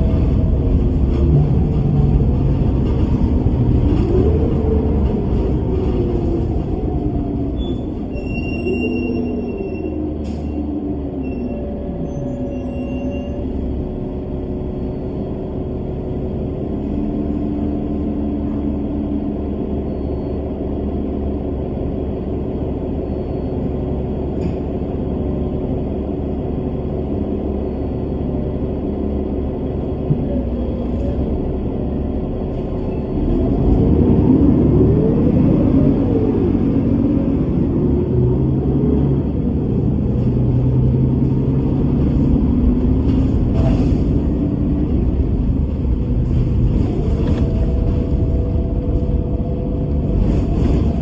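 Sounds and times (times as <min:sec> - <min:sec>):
bus engine running: 0:00.0 - 0:51.0
low road rumble: 0:00.0 - 0:51.0.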